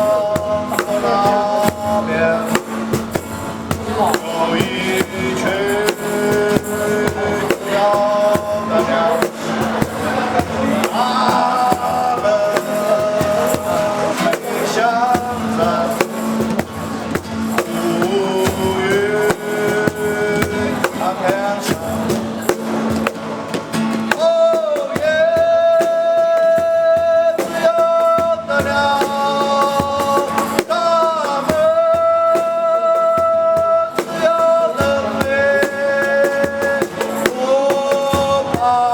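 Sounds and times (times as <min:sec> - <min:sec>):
drum kit: 0:00.0 - 0:38.9
guitar: 0:00.0 - 0:38.9
man singing: 0:00.0 - 0:38.9.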